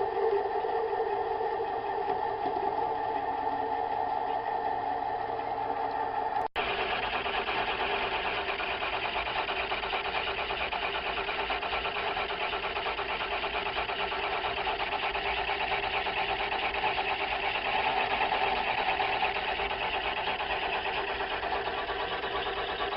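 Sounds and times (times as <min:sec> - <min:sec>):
metal lathe running: 0:00.0 - 0:22.9.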